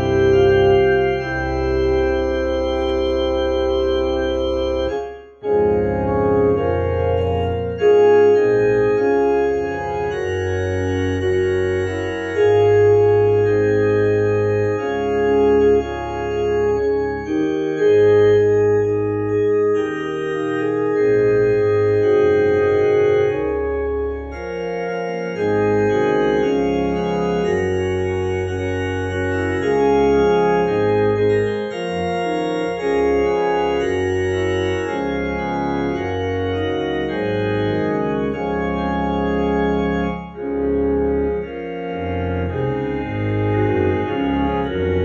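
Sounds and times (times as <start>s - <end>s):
electronic organ playing a hymn: 0.0s - 45.0s.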